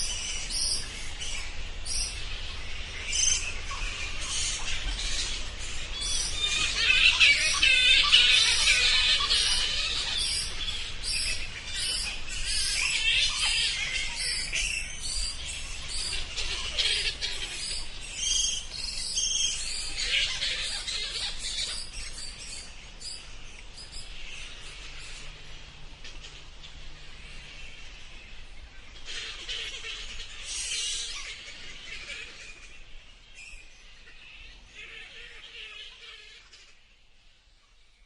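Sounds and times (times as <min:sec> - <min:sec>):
bats calling in dense chatter: 0:00.0 - 0:26.8, 0:28.8 - 0:33.0.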